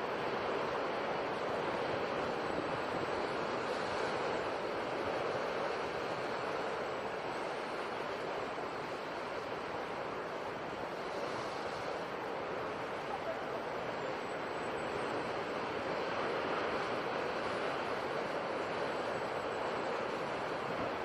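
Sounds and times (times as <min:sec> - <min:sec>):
sea waves rushing: 0:00.0 - 0:21.0.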